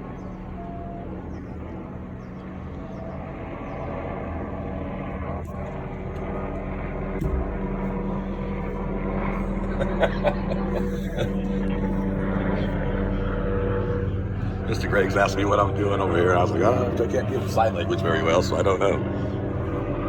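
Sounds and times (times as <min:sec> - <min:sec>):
helicopter rotor drone: 0:00.0 - 0:20.0.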